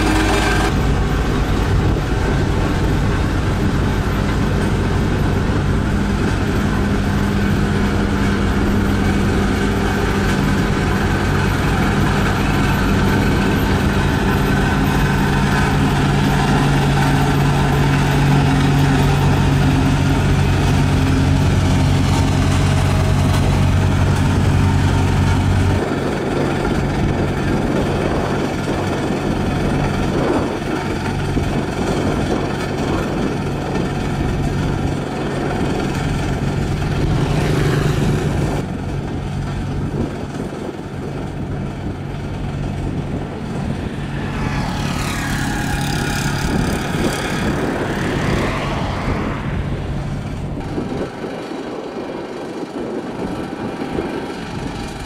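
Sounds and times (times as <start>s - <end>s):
road roller diesel engine drone: 0.0s - 55.0s.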